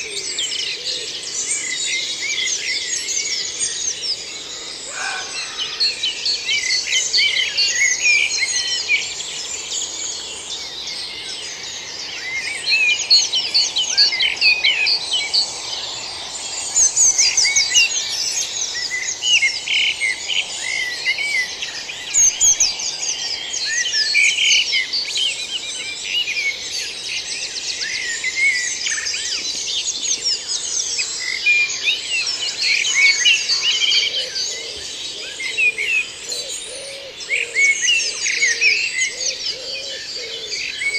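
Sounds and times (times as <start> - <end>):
birds singing and chirping: 0.0 - 40.9.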